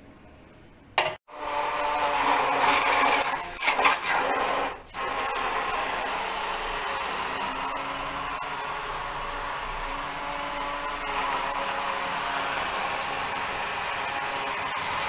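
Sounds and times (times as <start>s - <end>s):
hand blender whirring and grinding: 1.3s - 15.0s.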